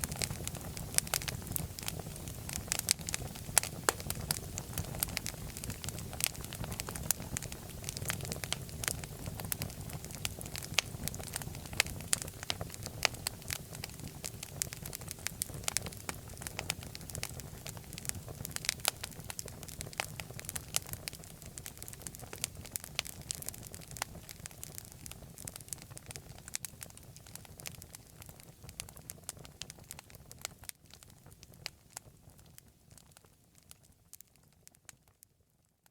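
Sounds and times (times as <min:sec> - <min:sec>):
low rumble of flames: 0:00.0 - 0:31.8
fireplace fire crackling: 0:00.0 - 0:35.2.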